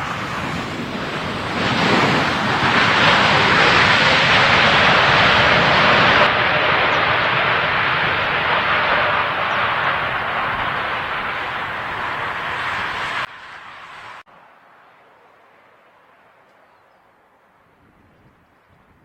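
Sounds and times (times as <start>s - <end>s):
jet airliner passing close: 0.0s - 16.5s.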